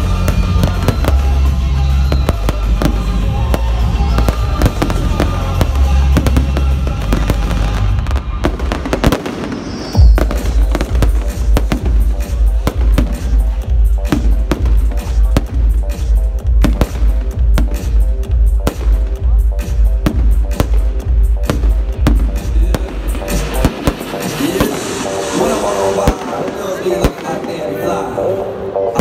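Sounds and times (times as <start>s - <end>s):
fireworks bangs and crackles: 0.0s - 28.1s
music with heavy bass: 0.0s - 29.0s.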